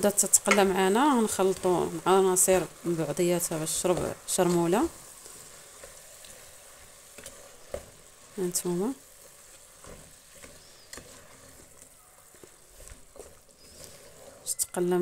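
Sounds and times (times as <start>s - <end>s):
food sizzling in oil: 0.0s - 15.0s
wooden spoon scraping pot: 0.0s - 15.0s.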